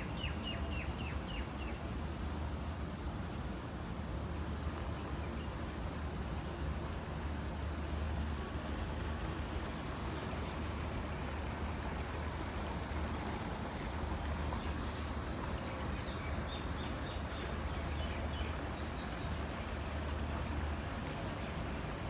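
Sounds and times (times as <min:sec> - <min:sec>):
low city rumble: 0:00.0 - 0:22.0.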